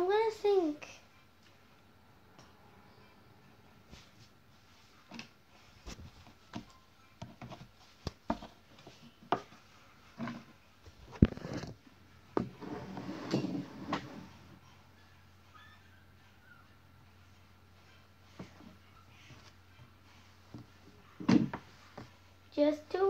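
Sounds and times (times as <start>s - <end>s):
rustling and shuffling: 3.8s - 15.5s, 16.1s - 23.0s.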